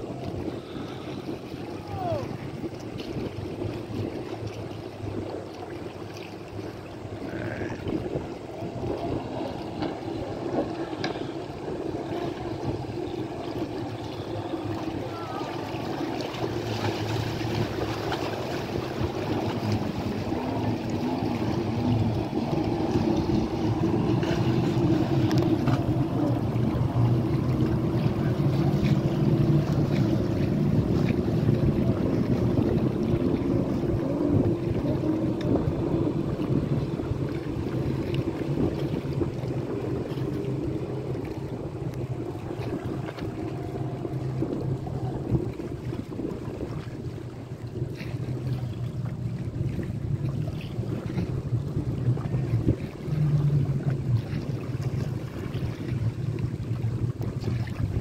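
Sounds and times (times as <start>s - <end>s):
jet ski engines droning: 0.0s - 58.0s
water noise: 0.0s - 58.0s
wind: 0.0s - 58.0s.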